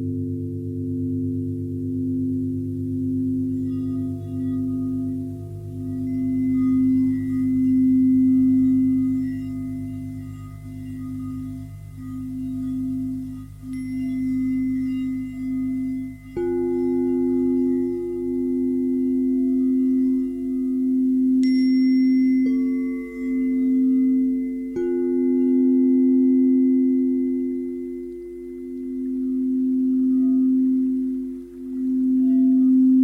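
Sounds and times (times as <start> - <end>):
singing bowls ringing: 0.0 - 33.0
high bright chime-like ring: 3.7 - 33.0.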